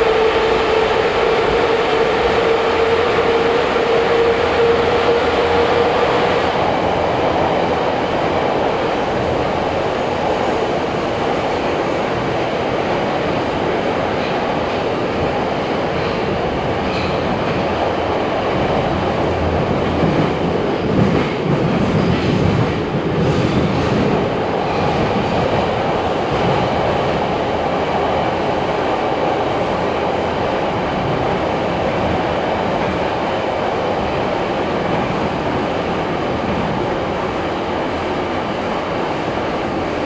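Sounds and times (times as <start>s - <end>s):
metro train rumble and hiss: 0.0s - 40.0s.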